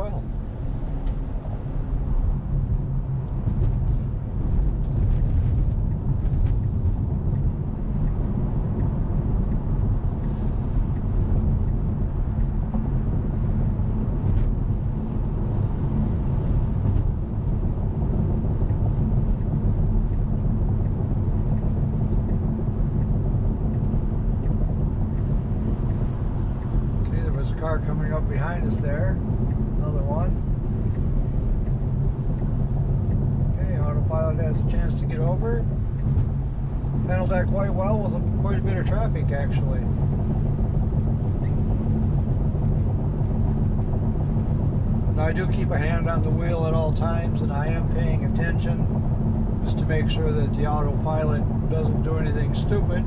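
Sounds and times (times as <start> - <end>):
road and tyre noise: 0.0 - 53.0.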